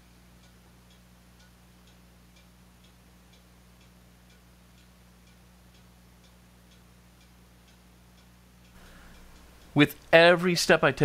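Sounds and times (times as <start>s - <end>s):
faint regular ticking: 0.0s - 11.0s
steady low hum: 0.0s - 11.0s.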